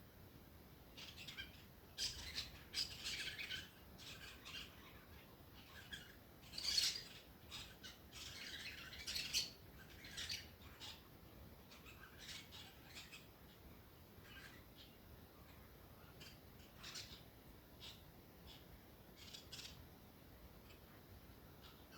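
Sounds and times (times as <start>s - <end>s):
birds chirping and squawking: 1.0s - 19.8s, 20.6s - 21.9s.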